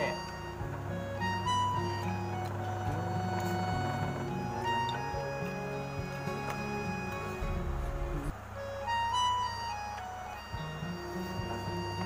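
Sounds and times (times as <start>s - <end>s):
bright melodic background music: 0.0s - 12.0s.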